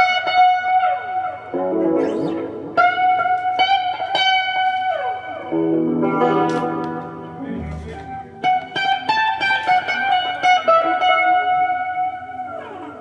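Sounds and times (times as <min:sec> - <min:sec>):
plucked guitar: 0:00.0 - 0:13.0.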